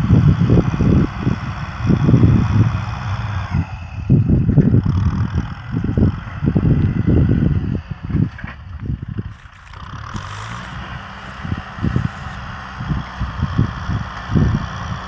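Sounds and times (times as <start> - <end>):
distant tractor diesel engine: 0.0 - 15.0
wind buffeting microphone: 0.0 - 15.0.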